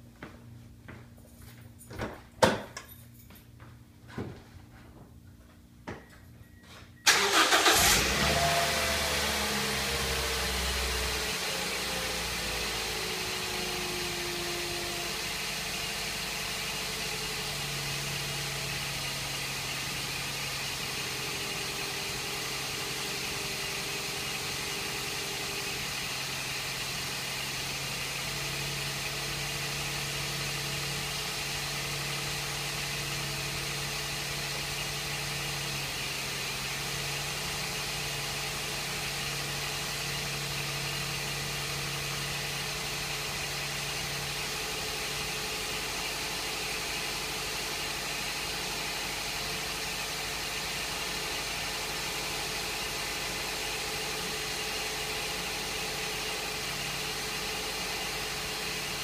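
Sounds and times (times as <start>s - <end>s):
car engine idling: 7.1s - 59.0s.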